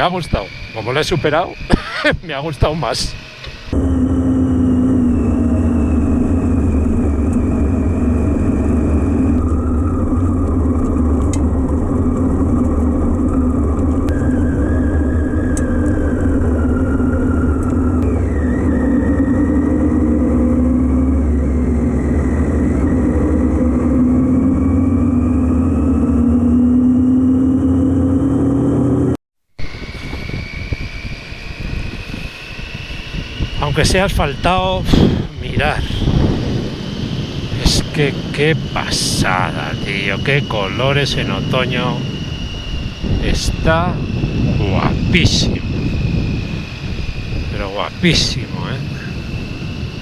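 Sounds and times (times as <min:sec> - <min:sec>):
constant low rumble: 0:00.0 - 0:50.0.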